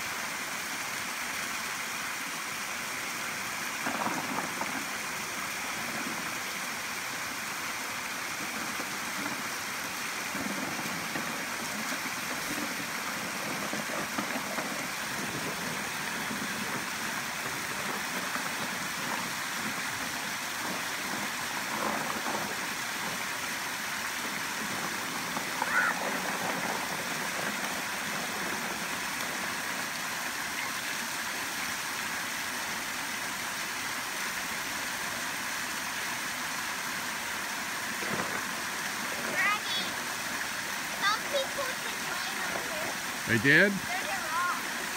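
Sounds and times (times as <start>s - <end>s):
creek water rushing over rocks: 0.0s - 44.9s.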